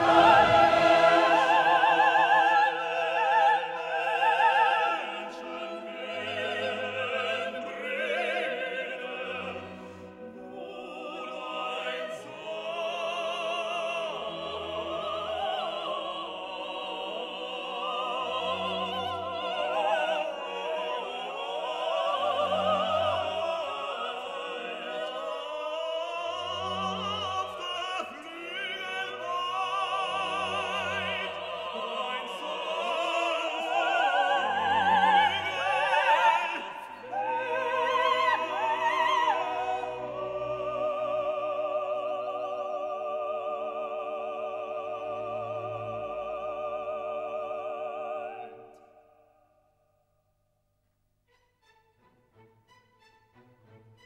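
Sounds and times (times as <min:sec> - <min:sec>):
orchestra: 0:00.0 - 0:49.0, 0:51.3 - 0:54.0
operatic singing with vibrato: 0:00.0 - 0:49.4.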